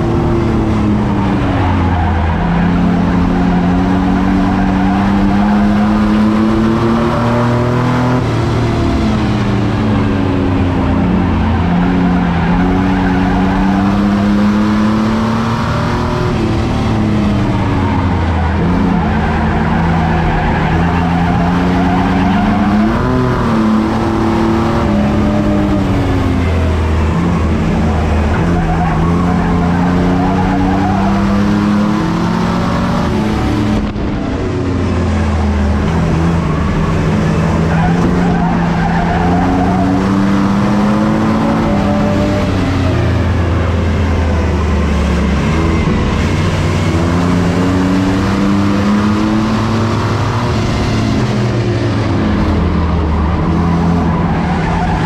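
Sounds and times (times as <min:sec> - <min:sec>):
racing truck engines revving: 0:00.0 - 0:55.0.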